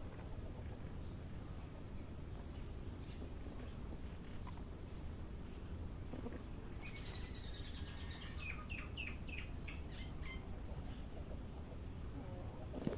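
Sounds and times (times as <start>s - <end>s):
songbird chirping: 0.0s - 12.9s.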